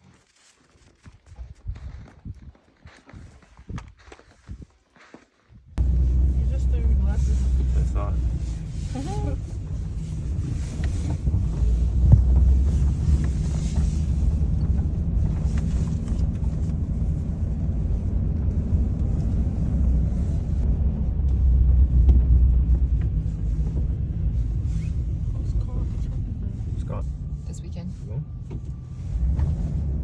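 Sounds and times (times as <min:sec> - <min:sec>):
vehicle engine rumbling: 0:05.8 - 0:30.0.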